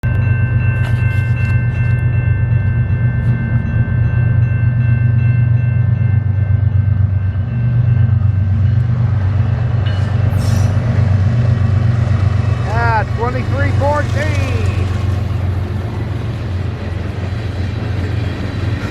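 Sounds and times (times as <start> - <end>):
locomotive diesel engine running: 0.1 - 18.9.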